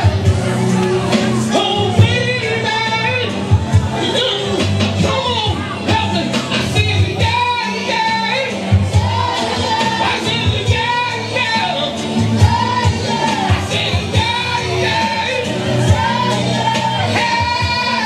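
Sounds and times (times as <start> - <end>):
bass line: 0.0 - 18.0
person singing: 0.0 - 18.0.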